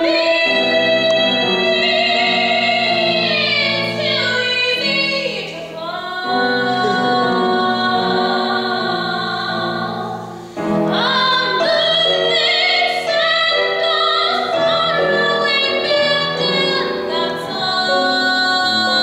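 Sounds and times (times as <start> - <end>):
grand piano accompaniment: 0.0 - 19.0
woman singing with vibrato: 0.0 - 19.0.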